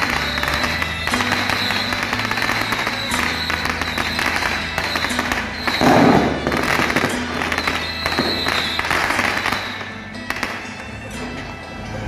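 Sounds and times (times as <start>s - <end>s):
firecrackers crackling: 0.0s - 11.6s
music: 0.0s - 12.0s.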